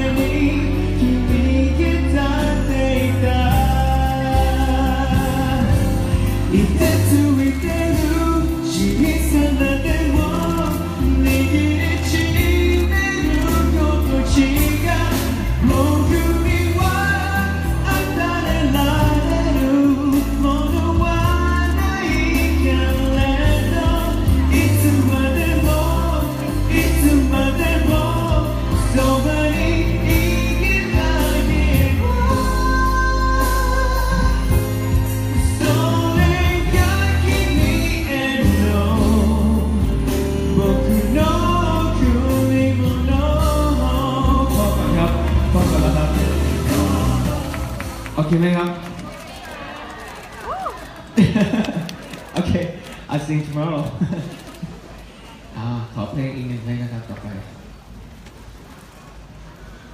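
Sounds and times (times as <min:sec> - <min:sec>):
man singing into a microphone: 0:00.0 - 0:48.2
backing music: 0:00.0 - 0:49.4.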